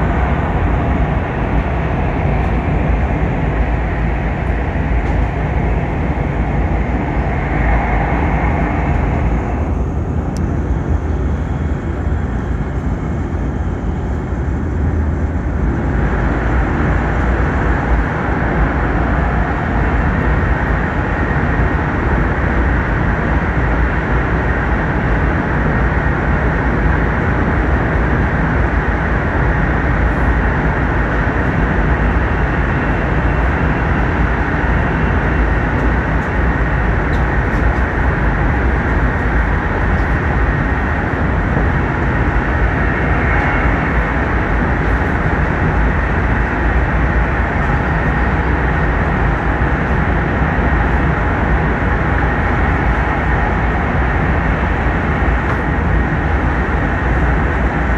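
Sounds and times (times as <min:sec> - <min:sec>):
train running at speed: 0:00.0 - 0:57.9.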